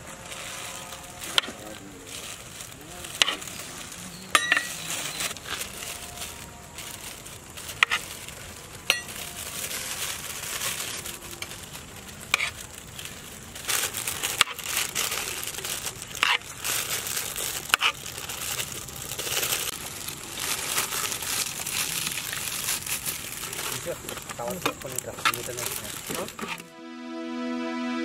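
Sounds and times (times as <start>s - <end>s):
bag crinkling: 0.0s - 26.7s
rice rustling: 0.0s - 26.7s.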